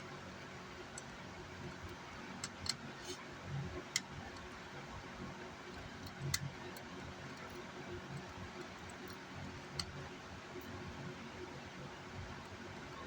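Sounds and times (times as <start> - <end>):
low hiss and hum: 0.0 - 13.0.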